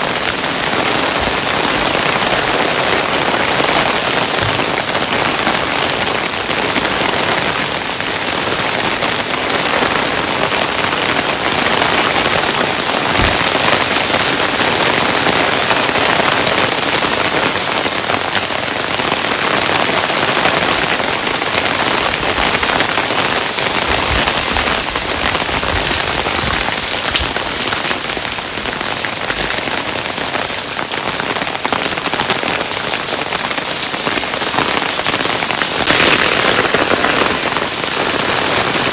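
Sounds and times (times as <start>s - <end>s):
hailstones pelting a surface: 0.0s - 38.9s.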